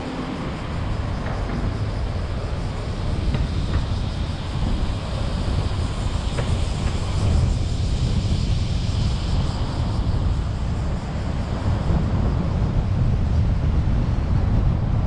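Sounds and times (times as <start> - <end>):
car tyre and engine rumble: 0.0 - 15.0.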